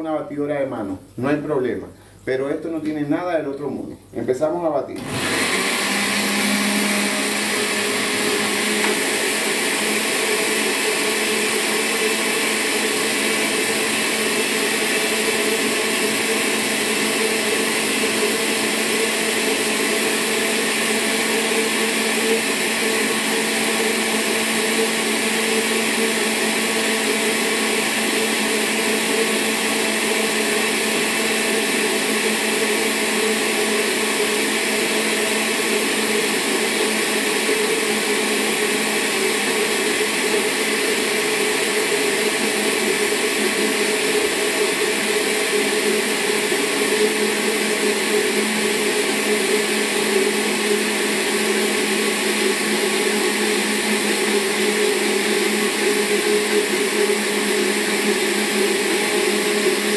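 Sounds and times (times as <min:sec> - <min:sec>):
blender running: 0:04.9 - 0:59.9.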